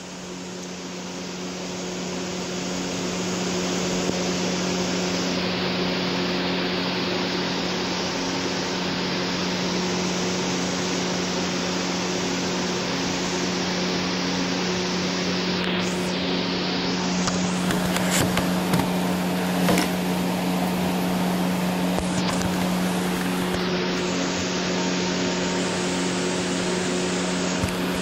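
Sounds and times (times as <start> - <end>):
whooshing machine drone: 1.3 - 28.0.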